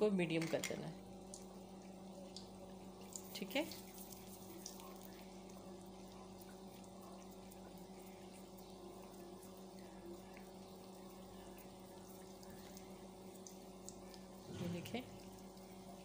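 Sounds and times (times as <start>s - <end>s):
faint sizzling of deep-frying: 0.0s - 16.0s
low steady hum: 0.0s - 16.0s.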